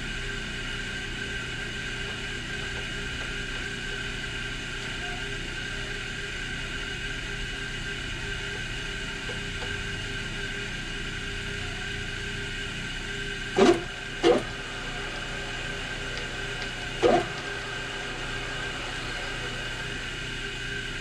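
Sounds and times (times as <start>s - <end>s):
shop machinery hum: 0.0s - 21.0s.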